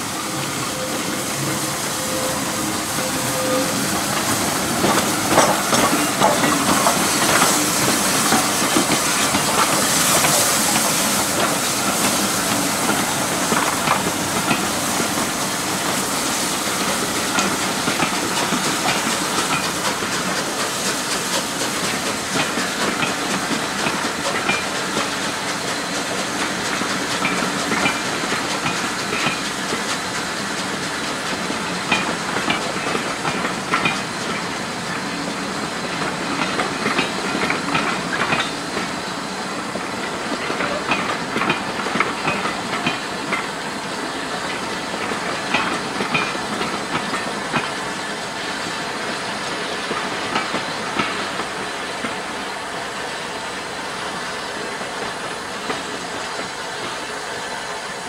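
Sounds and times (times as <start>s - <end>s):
steam hissing: 0.0s - 58.0s.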